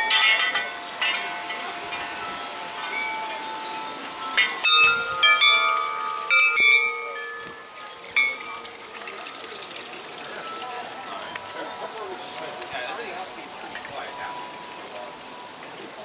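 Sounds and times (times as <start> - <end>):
tubular wind chimes ringing: 0.0 - 16.0.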